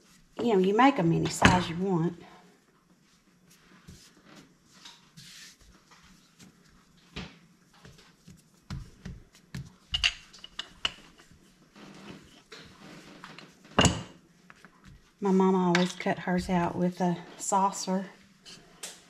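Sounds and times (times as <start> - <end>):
rolling pin rolling dough: 0.0 - 2.1, 3.0 - 18.8.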